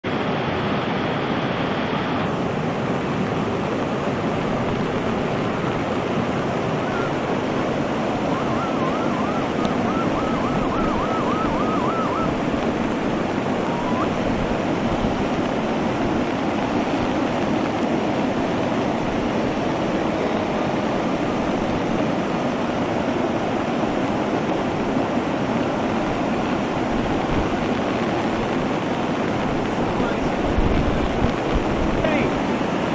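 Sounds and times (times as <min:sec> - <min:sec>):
rushing floodwater: 0:00.0 - 0:32.9.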